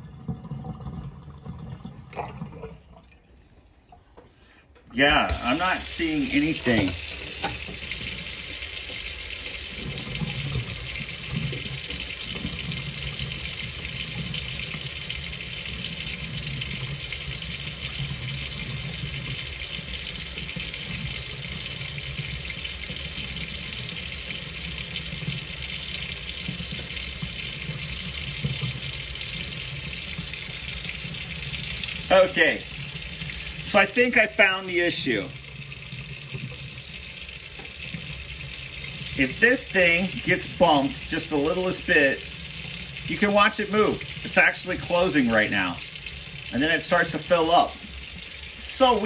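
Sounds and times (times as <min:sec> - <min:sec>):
faucet water running into sink: 0:00.0 - 0:03.2, 0:04.9 - 0:49.0.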